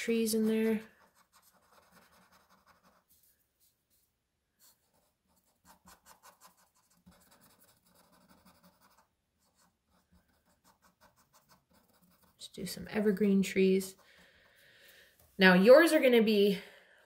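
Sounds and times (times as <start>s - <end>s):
marker scratching on paper: 0.0s - 14.2s.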